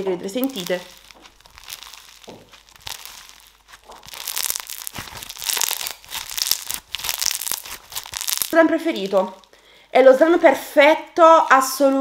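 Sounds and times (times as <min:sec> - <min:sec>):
crunchy slime crackling: 0:00.0 - 0:09.6, 0:11.2 - 0:12.0.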